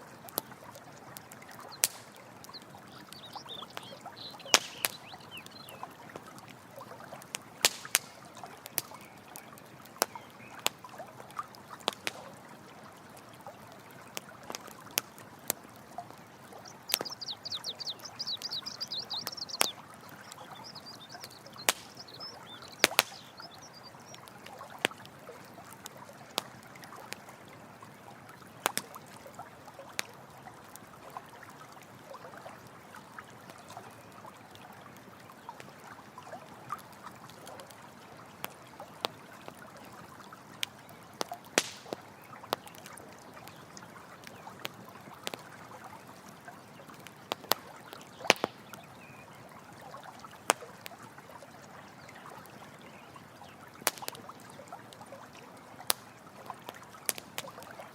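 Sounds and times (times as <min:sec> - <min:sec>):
stream trickling: 0:00.0 - 0:57.9
campfire crackling and popping: 0:00.1 - 0:34.2, 0:34.8 - 0:51.3, 0:53.1 - 0:57.9.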